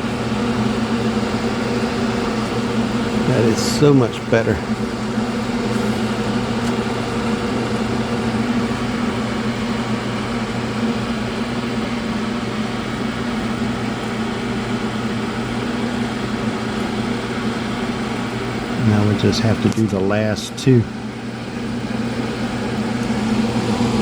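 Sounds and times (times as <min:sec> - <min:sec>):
fan hum: 0:00.0 - 0:24.0
low electrical drone: 0:00.0 - 0:24.0.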